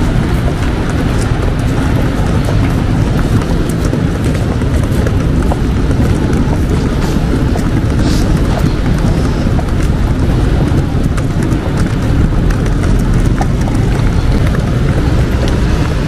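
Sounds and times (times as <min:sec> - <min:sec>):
footsteps on stone paving: 0:00.0 - 0:16.0
passing traffic rumble: 0:00.0 - 0:16.0
wind on microphone: 0:00.0 - 0:16.0.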